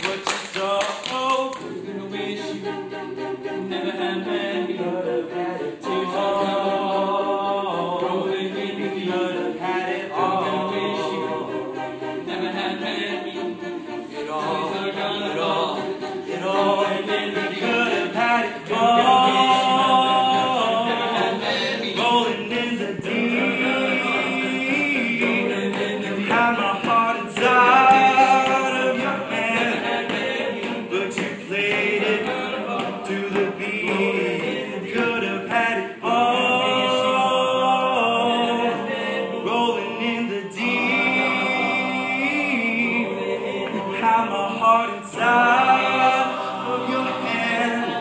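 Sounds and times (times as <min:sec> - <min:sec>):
men's a cappella singing: 0:00.0 - 0:48.0.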